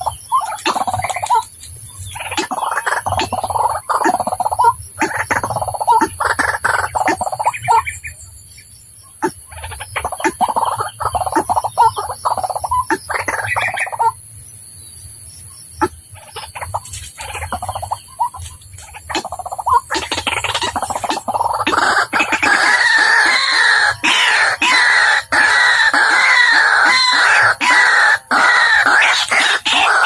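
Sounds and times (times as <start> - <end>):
waterhen harsh croaking calls: 0.0 - 8.2, 9.2 - 14.2, 15.8 - 30.0.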